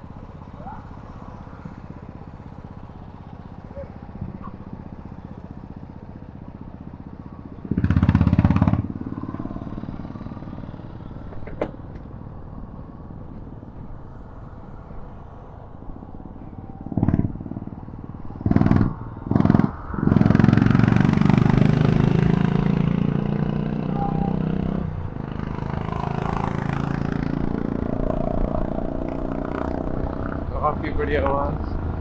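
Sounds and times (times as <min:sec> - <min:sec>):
motorcycle engine revving: 0:00.2 - 0:13.6, 0:16.6 - 0:32.0.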